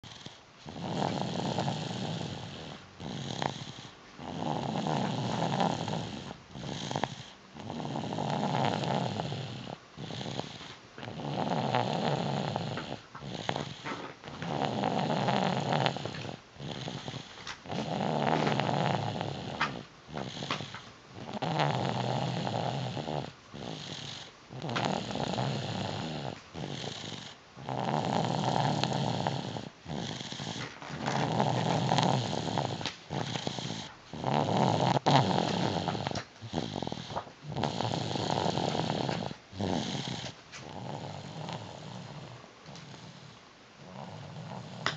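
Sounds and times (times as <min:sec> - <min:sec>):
rasping snores: 0:00.0 - 0:44.9.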